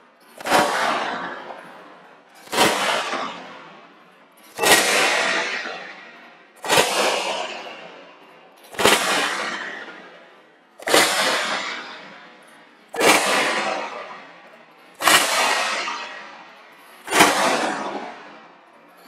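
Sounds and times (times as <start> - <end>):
whip cracks: 0.3 - 3.8, 4.5 - 18.6.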